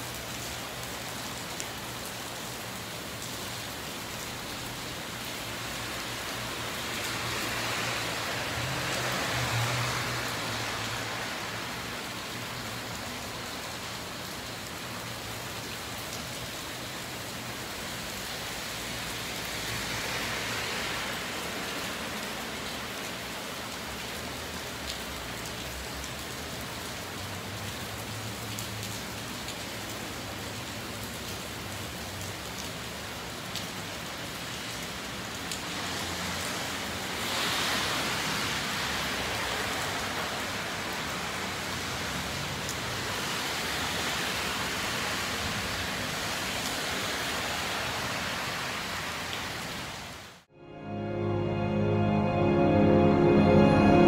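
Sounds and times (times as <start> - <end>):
rain on pavement: 0.0 - 50.5.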